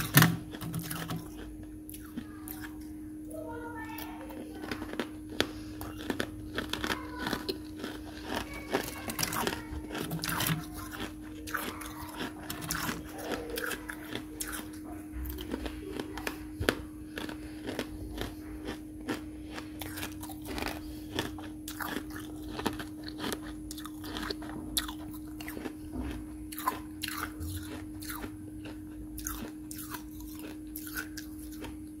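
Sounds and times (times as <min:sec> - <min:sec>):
frost crunching while chewed: 0:00.0 - 0:32.0.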